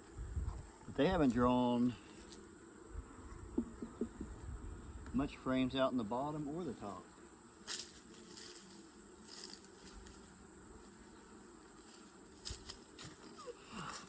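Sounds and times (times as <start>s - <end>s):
honey bees humming: 0.0s - 14.0s.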